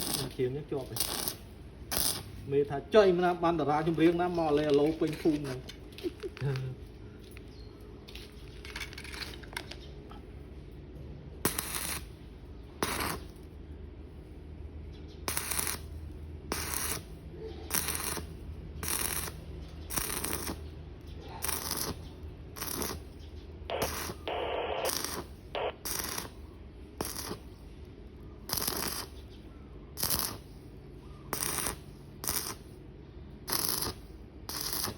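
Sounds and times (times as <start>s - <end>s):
arc welding crackle: 0.0s - 6.8s, 11.4s - 13.6s, 15.2s - 32.8s, 33.4s - 34.9s
steady low hum: 0.0s - 34.9s.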